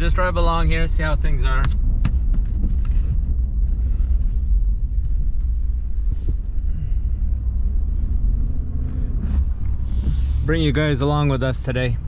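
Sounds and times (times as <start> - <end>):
vehicle engine and tyre rumble: 0.0 - 12.0.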